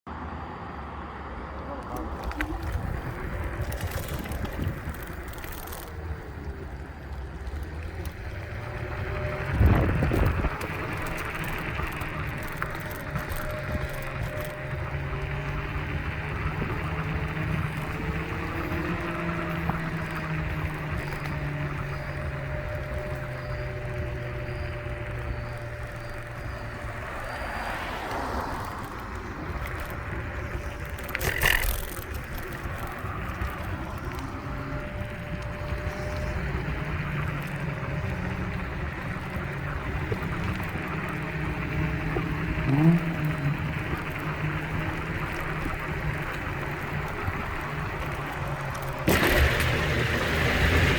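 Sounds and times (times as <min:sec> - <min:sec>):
scooter road rumble: 0:00.0 - 0:50.9
faint motor whine: 0:01.6 - 0:50.9
wind buffeting microphone: 0:01.8 - 0:50.9.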